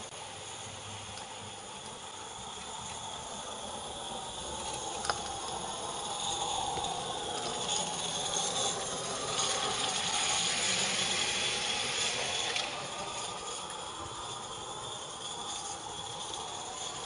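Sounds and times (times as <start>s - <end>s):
model steam locomotive hissing and rattling: 0.0s - 17.0s.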